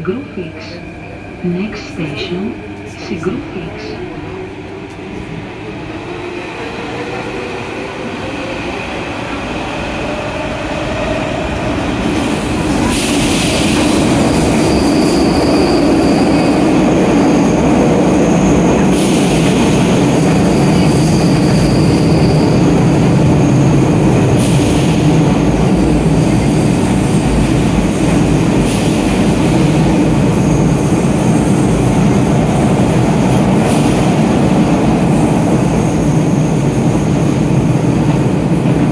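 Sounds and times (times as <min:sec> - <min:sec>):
train running rumble: 0:06.6 - 0:38.9.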